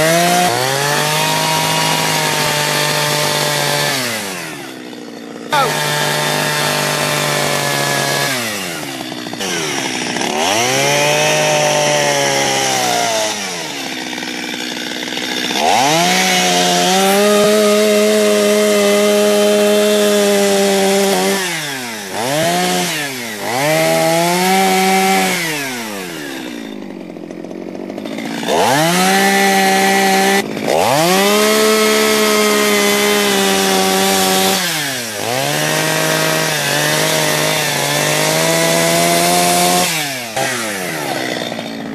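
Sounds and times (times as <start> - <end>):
chainsaw revving while carving wood: 0.0 - 41.9.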